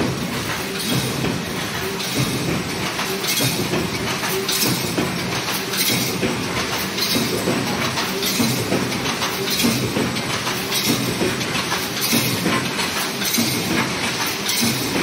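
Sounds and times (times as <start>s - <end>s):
welding machine clattering: 0.0s - 15.0s.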